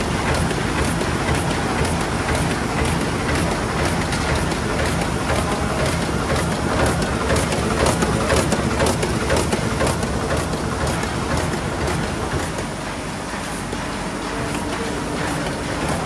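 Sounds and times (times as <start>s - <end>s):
sewing machine rhythmic clatter: 0.0s - 16.0s.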